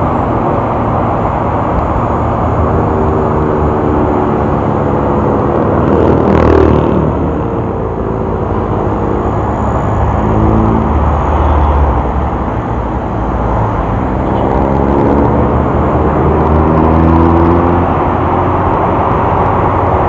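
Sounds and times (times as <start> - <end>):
motorcycle engine accelerating: 0.0 - 20.0
road rumble: 0.0 - 20.0
traffic engines: 0.0 - 20.0.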